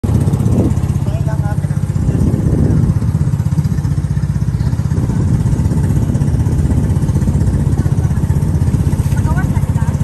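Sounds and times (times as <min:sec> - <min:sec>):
motorboat engine chugging: 0:00.0 - 0:10.0.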